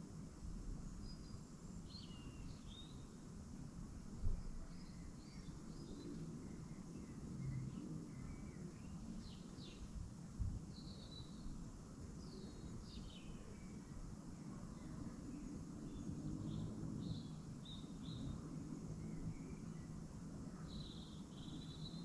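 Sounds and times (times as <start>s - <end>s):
faint bird chirps: 0.8s - 3.2s, 4.2s - 10.0s, 10.7s - 22.0s.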